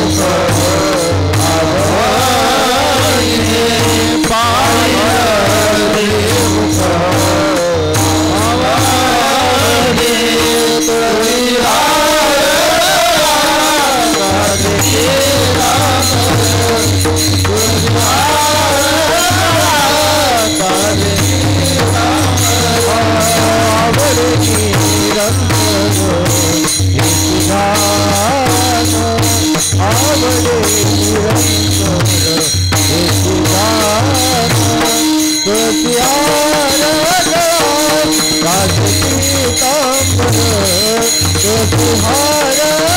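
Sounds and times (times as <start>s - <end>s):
hand cymbals jingling: 0.0s - 42.9s
men singing devotional melody: 0.0s - 42.9s.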